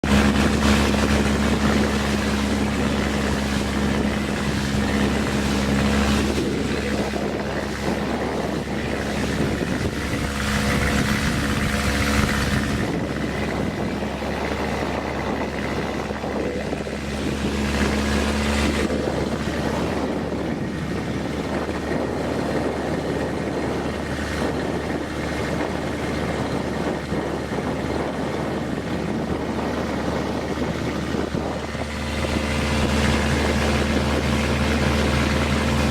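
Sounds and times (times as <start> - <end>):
motorboat engine running: 0.0 - 35.9
rushing wind: 0.0 - 35.9
water noise: 0.0 - 35.9.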